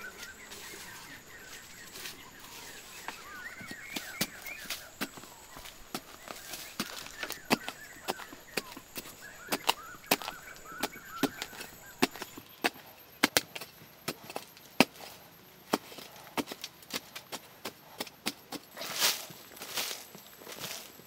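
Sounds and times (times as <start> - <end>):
hand hoe chopping dirt: 0.0 - 20.8.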